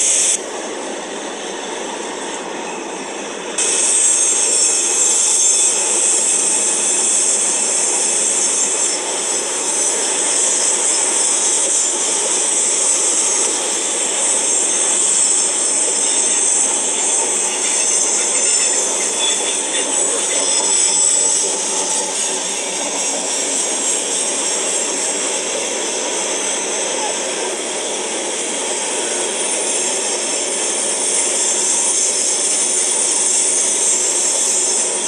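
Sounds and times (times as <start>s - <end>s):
steel wheels rolling on rail: 0.0s - 35.0s
high-pitched wheel squeal: 1.3s - 35.0s.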